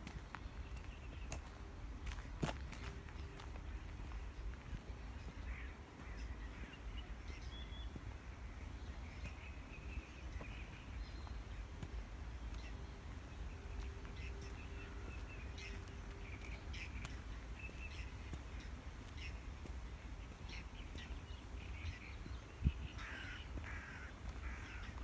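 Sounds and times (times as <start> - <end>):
steady low rumble: 0.0 - 25.0
wild birds chirping: 0.2 - 25.0.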